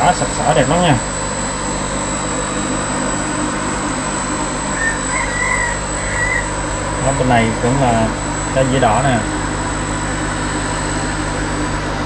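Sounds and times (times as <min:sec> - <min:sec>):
air pump motors humming: 0:00.0 - 0:12.0.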